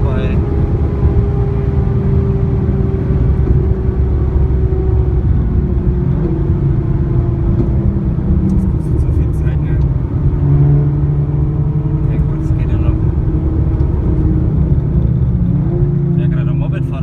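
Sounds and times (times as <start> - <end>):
loud car exhaust and engine: 0.0 - 17.0
road noise rumble: 0.0 - 17.0.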